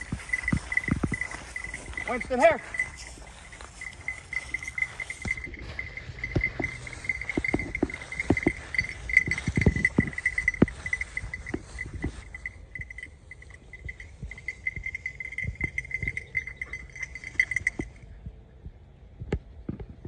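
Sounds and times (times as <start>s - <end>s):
footsteps through grass: 0.0s - 17.8s
pulsing high-pitched tone: 0.0s - 18.0s.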